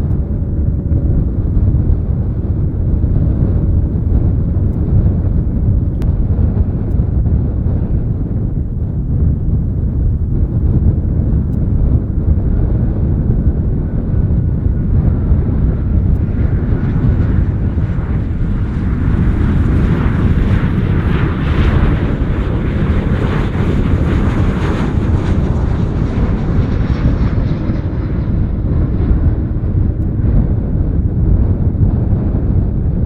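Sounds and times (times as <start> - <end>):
jet airliner flying past: 0.0 - 33.0
wind rumble on microphone: 0.0 - 33.0.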